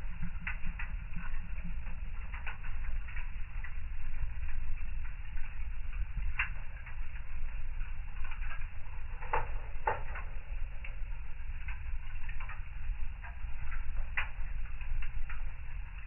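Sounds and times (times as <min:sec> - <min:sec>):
fire crackling and popping: 0:00.0 - 0:16.0
low fire rumble: 0:00.0 - 0:16.0.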